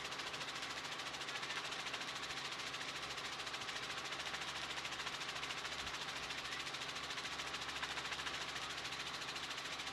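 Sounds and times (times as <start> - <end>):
helicopter rotor and engine: 0.0 - 9.9.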